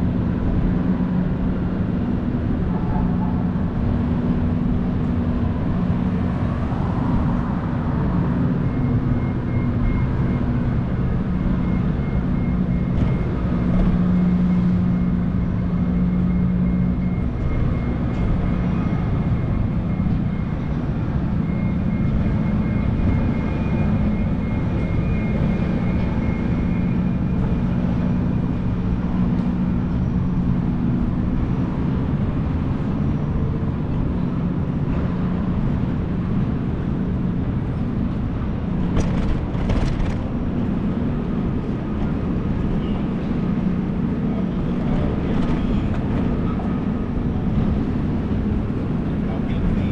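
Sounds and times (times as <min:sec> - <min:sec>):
vehicle engines humming: 0:00.0 - 0:49.9.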